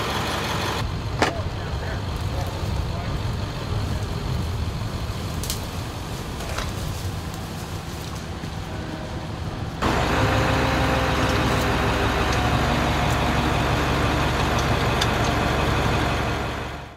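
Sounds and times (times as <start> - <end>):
diesel truck engine running: 0.0 - 7.5, 8.3 - 16.9
distant engine: 0.0 - 16.9.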